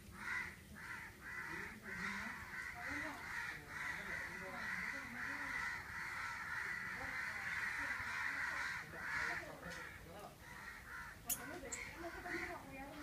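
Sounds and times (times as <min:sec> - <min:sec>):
crows cawing: 0:00.1 - 0:12.9.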